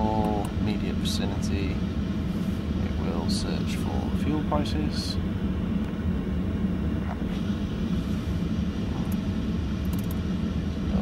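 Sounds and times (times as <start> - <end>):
car engine idling cabin rumble: 0.0 - 11.0.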